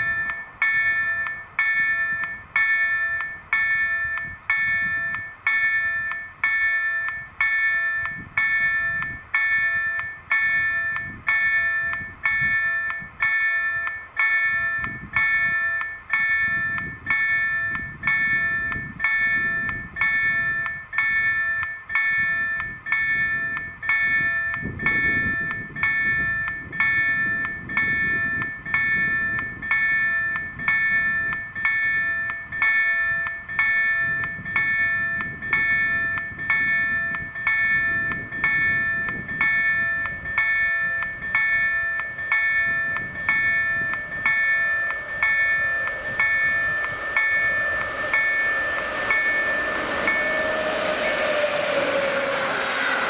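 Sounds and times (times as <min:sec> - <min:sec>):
approaching train rush: 0:00.0 - 0:53.0
level crossing bells ringing: 0:00.0 - 0:53.0.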